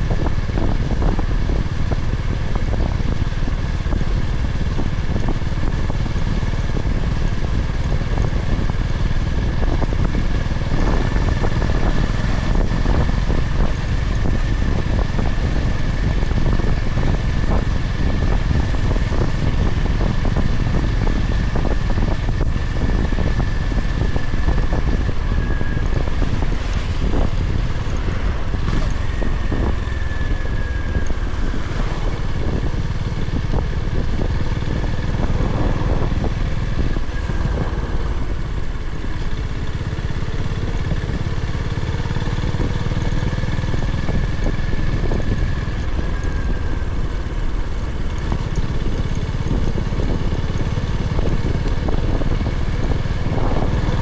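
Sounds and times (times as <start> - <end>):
motorcycle engine cruising: 0.0 - 54.0
wind rumble on microphone: 0.0 - 54.0.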